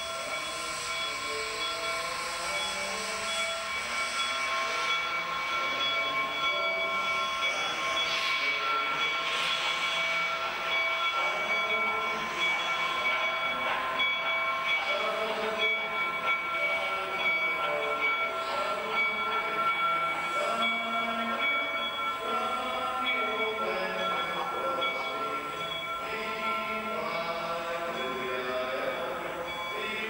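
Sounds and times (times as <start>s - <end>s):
chord of high tones: 0.0s - 30.0s
steam hissing: 0.0s - 30.0s.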